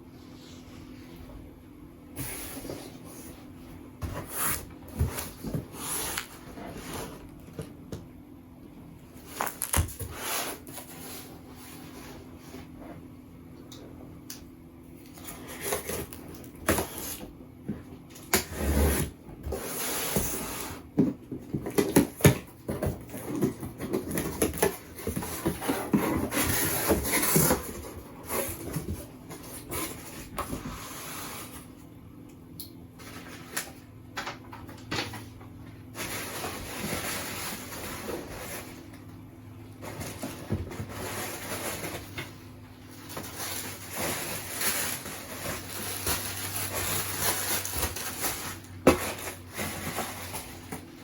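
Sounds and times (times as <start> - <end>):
packaging rustling and scraping: 2.2 - 7.8, 9.1 - 13.2, 15.0 - 31.8, 33.0 - 33.9, 34.9 - 51.0.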